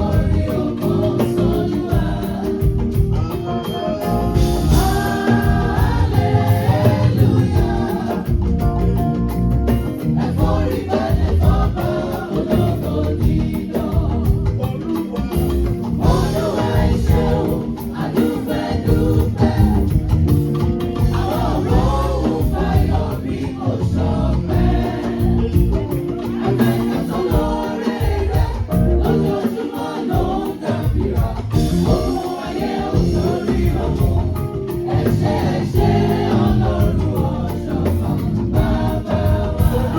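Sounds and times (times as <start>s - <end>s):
choir singing gospel: 0.0s - 39.9s
instrumental accompaniment with bass: 0.0s - 39.9s.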